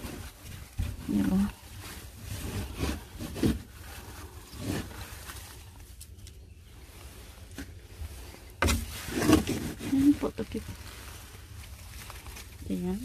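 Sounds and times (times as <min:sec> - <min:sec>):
plastic scoop scraping wood shavings: 0:00.0 - 0:06.0, 0:07.0 - 0:13.0.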